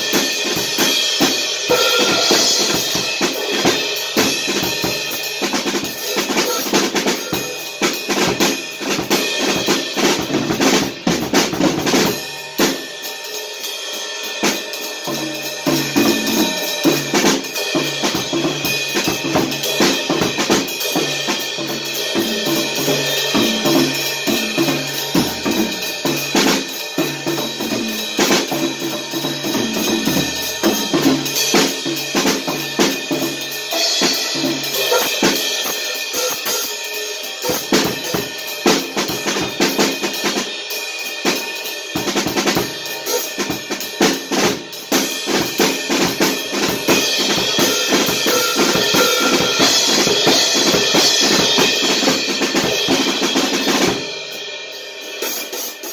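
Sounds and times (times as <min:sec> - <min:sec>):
drum kit groove: 0:00.0 - 0:55.9.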